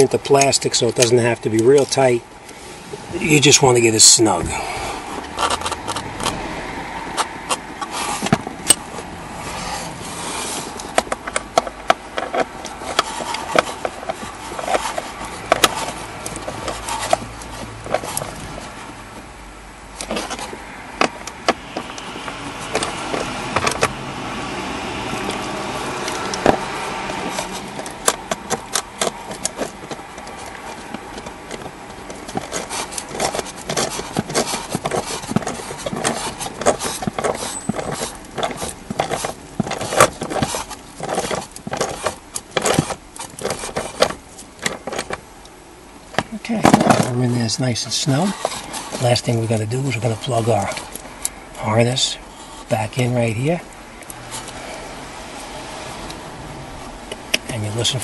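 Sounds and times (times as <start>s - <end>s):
tool scraping and knocking plastic: 0.0s - 2.1s, 3.2s - 19.3s, 20.0s - 24.0s, 25.0s - 45.3s, 46.1s - 52.1s.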